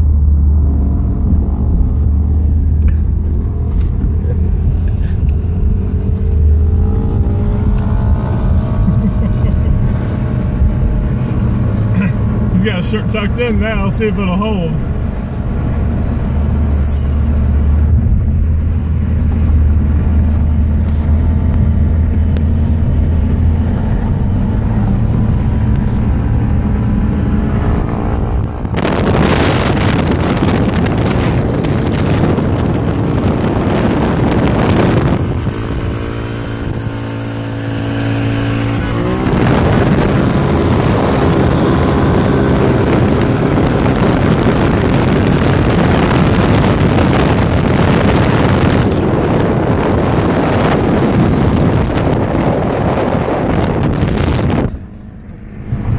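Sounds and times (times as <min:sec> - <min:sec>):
car road and engine hum: 0:00.0 - 0:55.9
wind rushing through car window: 0:00.0 - 0:55.9.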